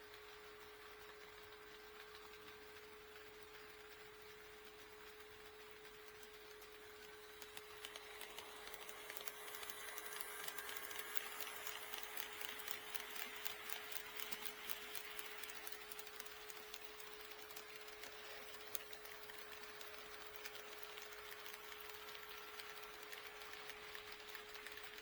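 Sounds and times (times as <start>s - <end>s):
model train wheels clicking: 0.0s - 25.0s.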